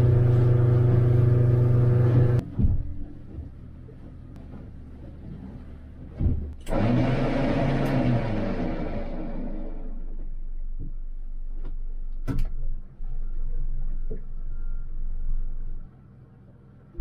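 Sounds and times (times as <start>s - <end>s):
boat engine humming: 0.0s - 12.1s, 12.8s - 17.0s.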